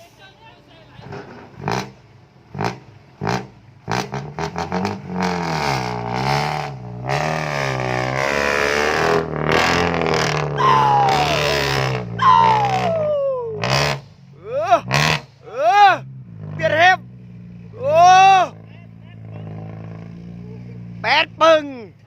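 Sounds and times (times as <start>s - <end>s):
vehicle engine revving: 0.9s - 22.0s.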